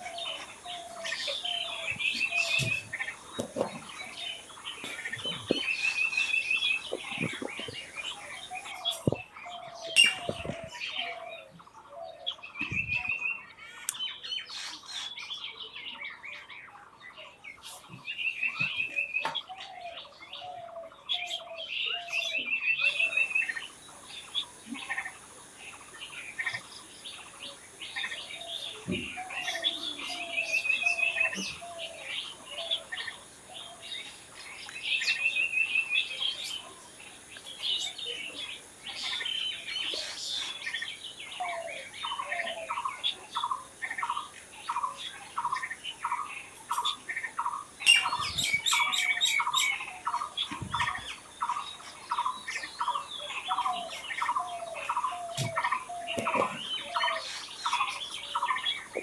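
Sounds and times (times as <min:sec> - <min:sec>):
wild birds singing and calling: 0:00.0 - 0:59.0.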